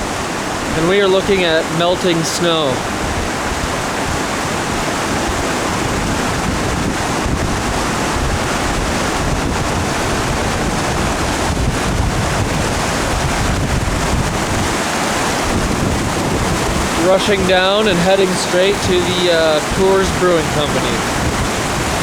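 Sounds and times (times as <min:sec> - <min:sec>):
waterfall rushing: 0:00.0 - 0:22.0
wind buffeting microphone: 0:00.0 - 0:22.0.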